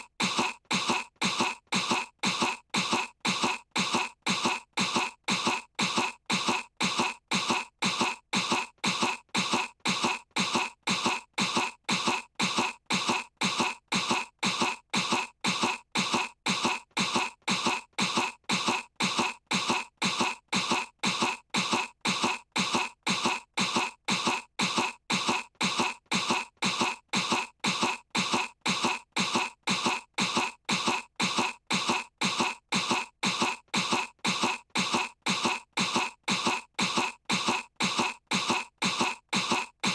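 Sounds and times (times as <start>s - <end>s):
girl's cartoon voice fake coughing: 0.0s - 39.9s.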